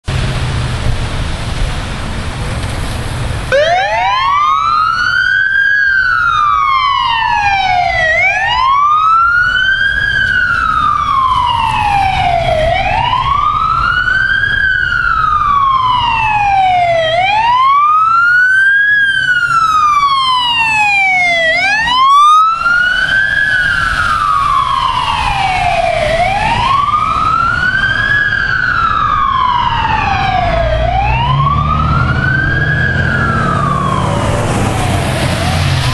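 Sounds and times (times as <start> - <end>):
siren wailing: 3.5 - 35.9.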